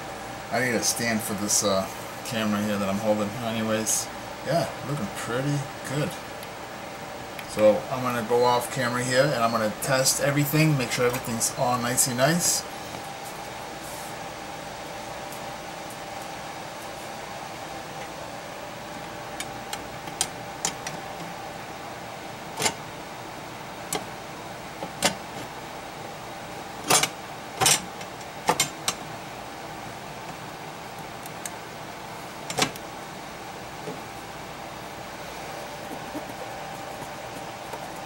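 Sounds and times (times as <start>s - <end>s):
faint held whine: 0.0s - 38.0s
steady hum: 0.0s - 38.0s.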